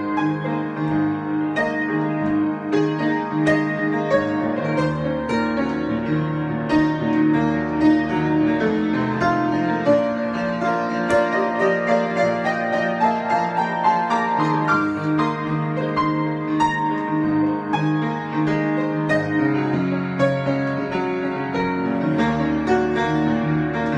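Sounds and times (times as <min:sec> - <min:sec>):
solo piano improvisation: 0:00.0 - 0:23.9.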